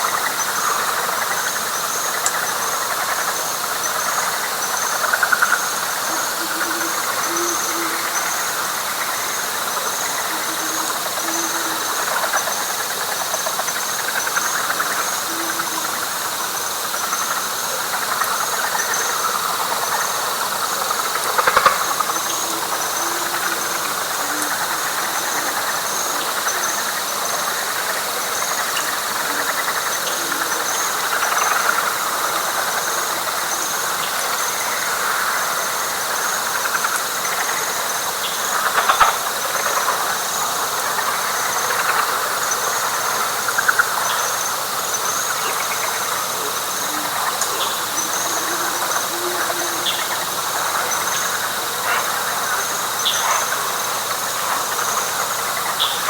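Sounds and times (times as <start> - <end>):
frogs and insects trilling: 0.0 - 56.0.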